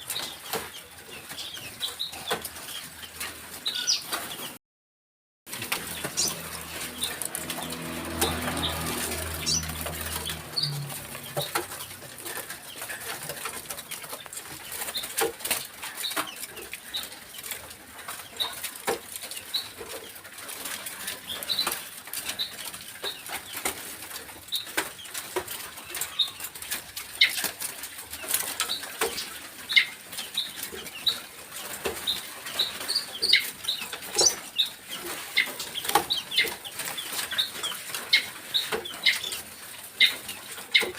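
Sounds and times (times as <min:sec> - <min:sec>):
birds chirping and clicking: 0:00.0 - 0:04.6, 0:05.5 - 0:40.9
birds fluttering wings: 0:05.5 - 0:40.9.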